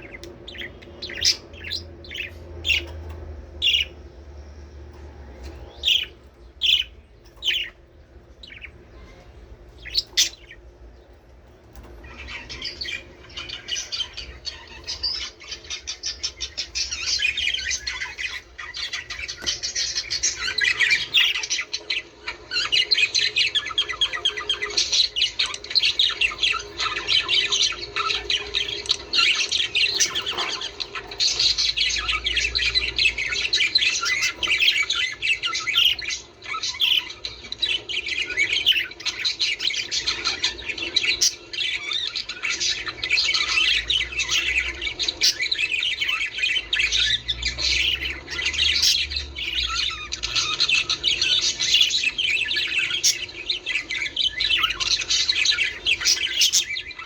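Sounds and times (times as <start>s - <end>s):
budgerigars chattering: 0.0s - 4.2s, 5.3s - 57.0s.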